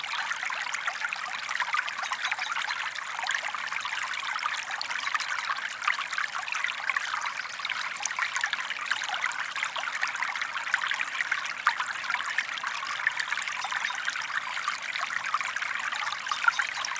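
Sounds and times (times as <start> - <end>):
stream flowing over stones: 0.0 - 16.9.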